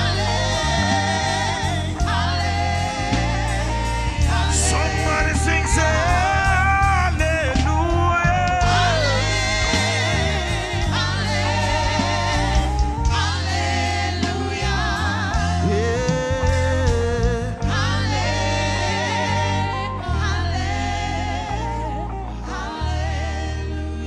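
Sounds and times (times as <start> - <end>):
band with steady bass: 0.0 - 24.0
choir singing gospel: 0.0 - 24.0.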